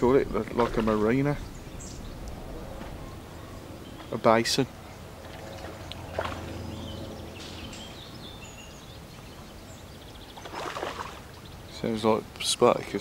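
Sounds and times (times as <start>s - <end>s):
low outdoor background noise: 0.0s - 13.0s
faint bird chirps: 0.7s - 11.9s.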